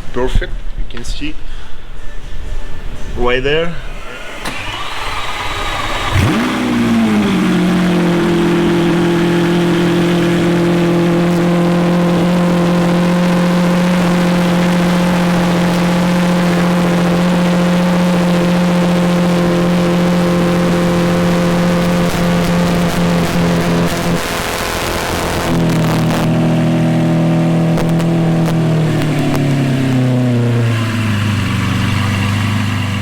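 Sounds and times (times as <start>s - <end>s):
car engine starting and idling: 3.8s - 33.0s.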